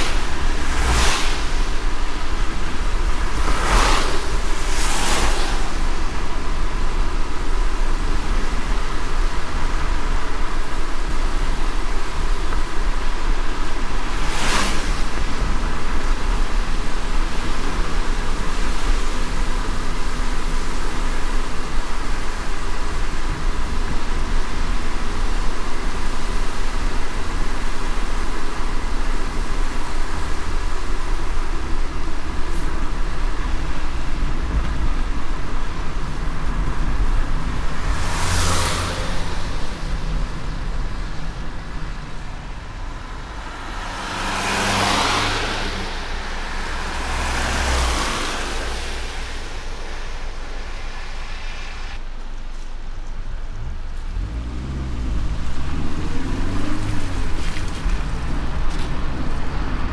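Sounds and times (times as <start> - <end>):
vehicle passing whoosh: 0.0 - 12.4, 13.0 - 21.1, 31.3 - 52.5, 53.1 - 59.9
car engine and tyre rumble: 0.0 - 59.9
rain road hiss: 0.0 - 59.9.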